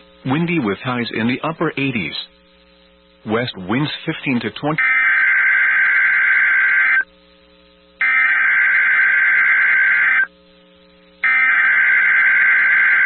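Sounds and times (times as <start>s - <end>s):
buzzy digital data tones: 0.4s - 7.2s, 8.0s - 10.4s, 11.2s - 13.0s.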